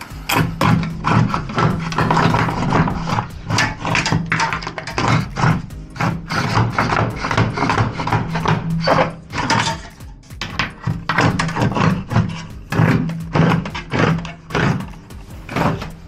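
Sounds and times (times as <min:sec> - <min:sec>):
plastic conduit scraping and rattling: 0:00.0 - 0:16.0.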